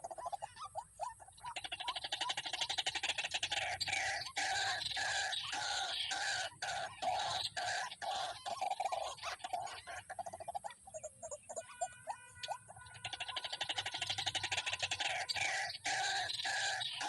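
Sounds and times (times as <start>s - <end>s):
waterhen calling: 0.0s - 17.0s.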